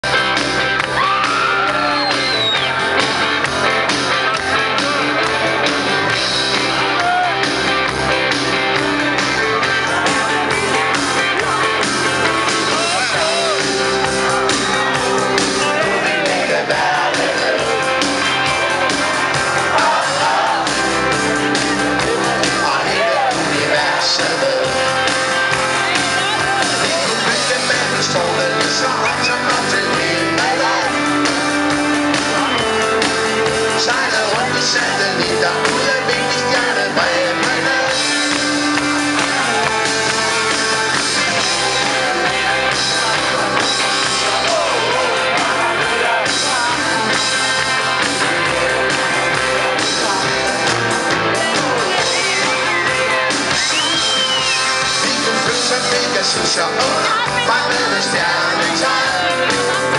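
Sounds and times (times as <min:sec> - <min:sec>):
live rock band playing: 0:00.0 - 0:59.9
crowd shouting and whooping: 0:00.1 - 0:59.9.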